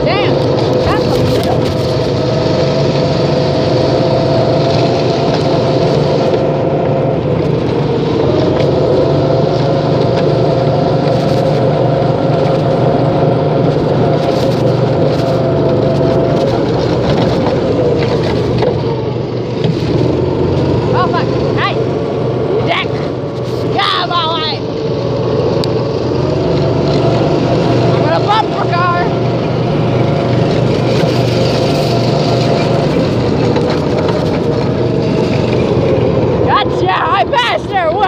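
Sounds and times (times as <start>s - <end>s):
vehicle engine droning: 0.0s - 38.0s.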